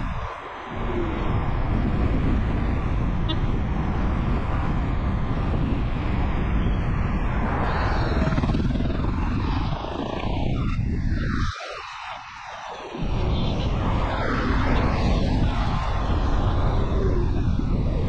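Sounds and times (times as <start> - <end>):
road and wind rushing noise: 0.0 - 18.0.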